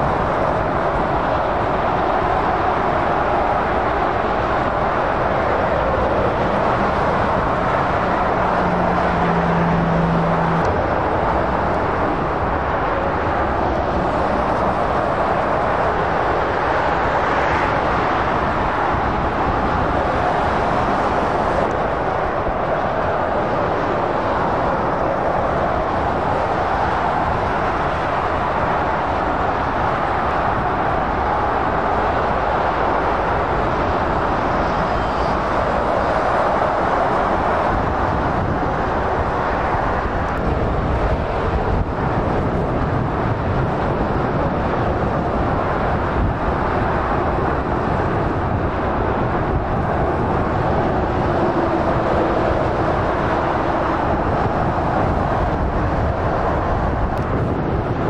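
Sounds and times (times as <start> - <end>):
motorway traffic: 0.0 - 58.0.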